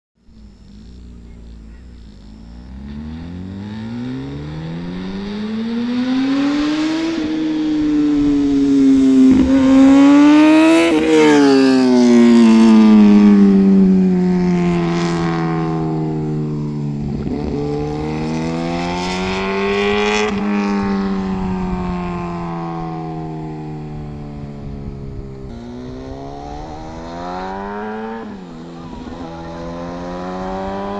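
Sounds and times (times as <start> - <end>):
motorcycle engine revving: 0.2 - 30.9.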